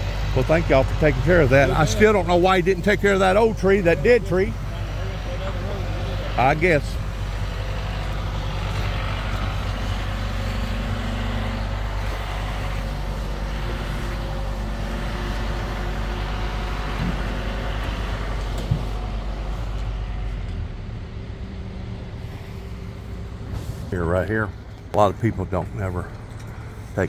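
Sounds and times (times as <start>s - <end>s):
engine rumbling: 0.0s - 27.0s.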